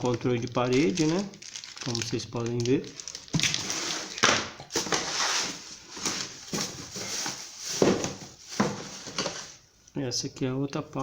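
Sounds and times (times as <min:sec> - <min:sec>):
packaging rustling: 0:00.6 - 0:09.6.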